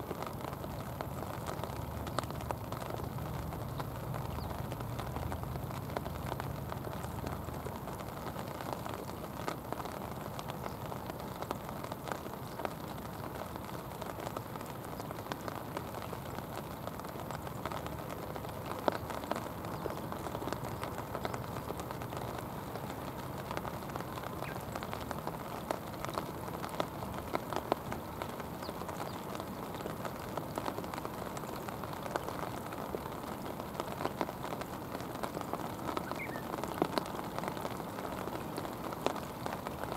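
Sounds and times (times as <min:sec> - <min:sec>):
rain falling on river water: 0:00.0 - 0:39.9.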